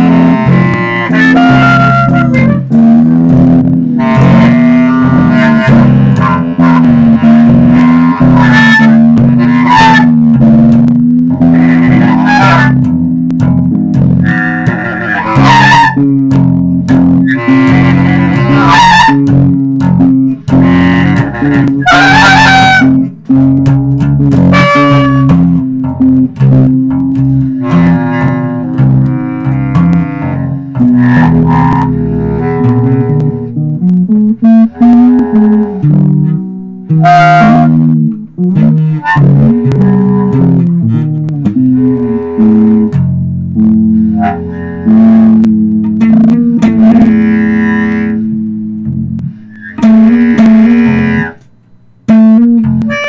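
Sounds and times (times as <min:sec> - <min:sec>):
electric bass: 0:00.0 - 0:53.0
electric guitar: 0:00.0 - 0:53.0.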